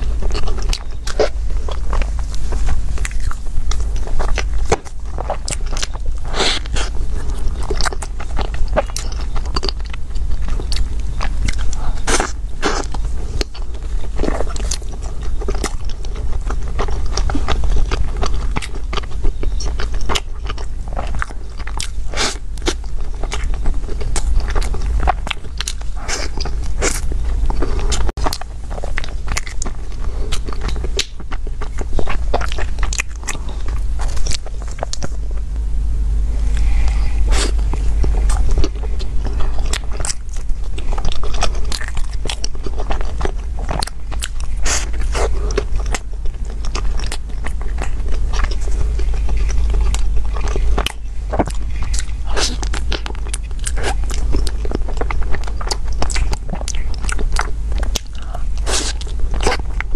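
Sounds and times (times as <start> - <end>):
chewing soft food: 0.0 - 35.6, 36.2 - 59.9
low hum: 0.0 - 59.9.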